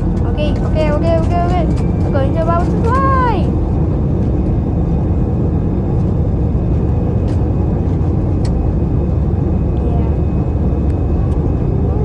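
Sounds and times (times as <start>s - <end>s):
jet engines roaring: 0.0s - 12.0s
runway rumble: 0.0s - 12.0s.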